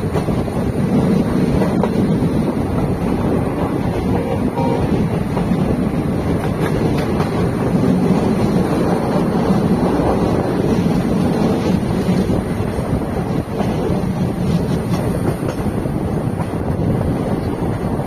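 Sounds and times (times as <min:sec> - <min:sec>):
train rumbling on board: 0:00.0 - 0:18.0
wind buffeting microphone: 0:00.0 - 0:18.0.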